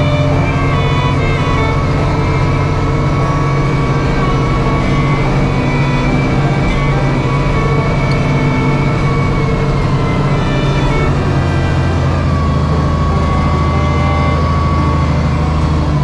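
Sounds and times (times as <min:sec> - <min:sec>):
diesel engine working hard: 0:00.0 - 0:16.0
steady whine: 0:00.0 - 0:16.0.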